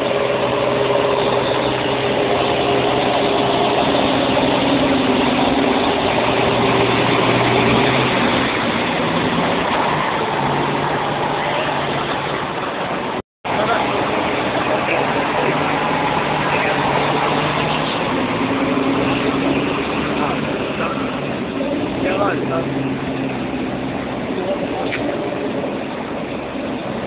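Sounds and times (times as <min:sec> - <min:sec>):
diesel tractor driving past: 0:00.0 - 0:27.0.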